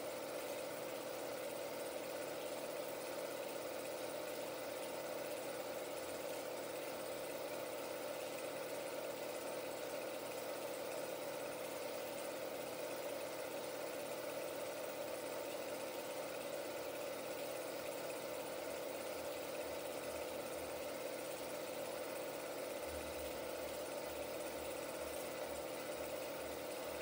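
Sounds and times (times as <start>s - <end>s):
film projector humming: 0.0s - 27.0s.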